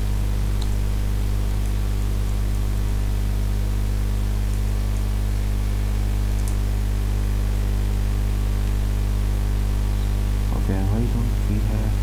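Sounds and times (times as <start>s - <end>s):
constant hiss: 0.0s - 12.0s
electrical mains hum: 0.0s - 12.0s.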